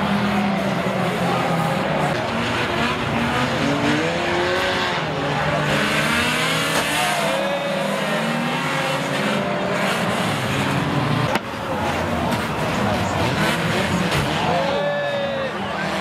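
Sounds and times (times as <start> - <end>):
racing car engines revving: 0.0 - 16.0.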